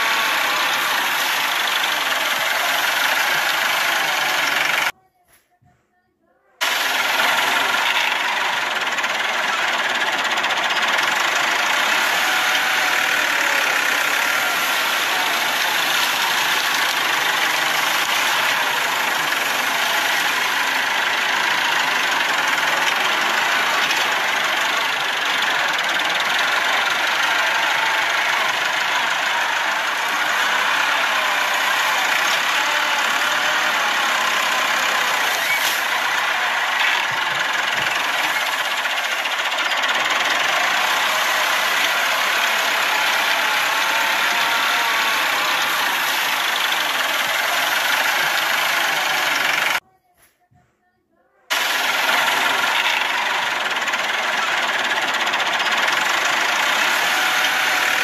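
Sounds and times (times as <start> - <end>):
tractor diesel engine running: 0.0 - 5.0, 6.6 - 49.8, 51.5 - 58.0.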